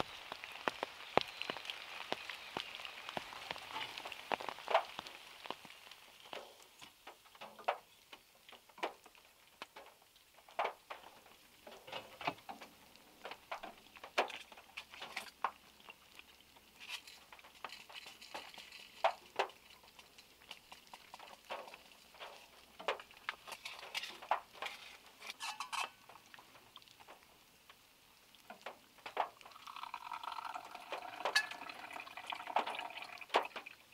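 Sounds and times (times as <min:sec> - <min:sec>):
faint rain hiss: 0:00.0 - 0:33.9
raindrops tapping on car roof: 0:00.0 - 0:33.9.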